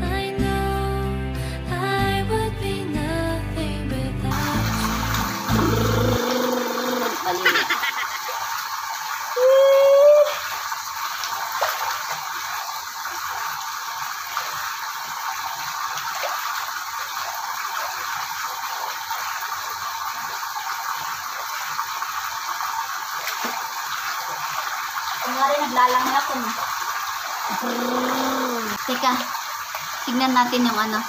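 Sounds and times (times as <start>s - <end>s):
small water splashes: 4.3s - 31.0s
water running from tap into pool: 4.3s - 31.0s.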